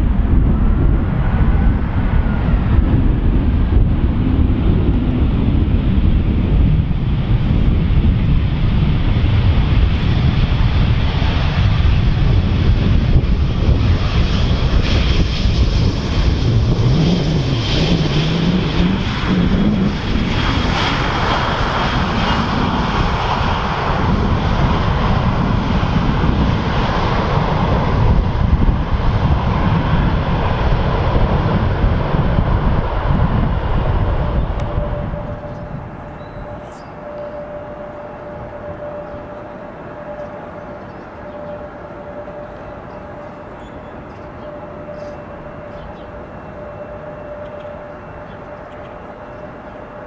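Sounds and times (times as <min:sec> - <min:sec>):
jet airliner passing: 0:00.0 - 0:50.0.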